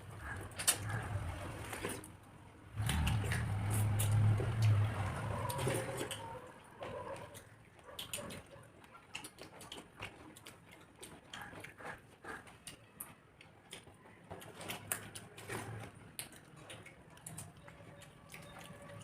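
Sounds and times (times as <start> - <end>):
chewing and eating sounds: 0.0 - 19.0.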